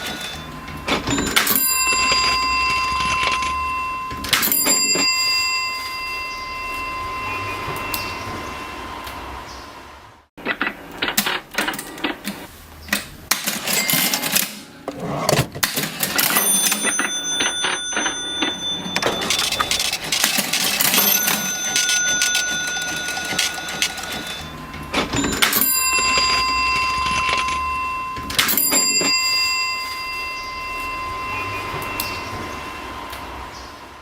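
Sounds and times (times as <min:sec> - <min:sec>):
cash register keys clattering: 0:00.0 - 0:08.1, 0:13.3 - 0:32.6
cash register bell ringing: 0:00.0 - 0:09.3, 0:13.3 - 0:34.0.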